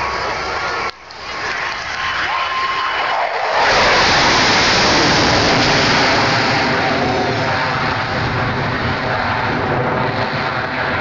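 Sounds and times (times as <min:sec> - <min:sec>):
fighter jet roaring overhead: 0:00.0 - 0:11.0.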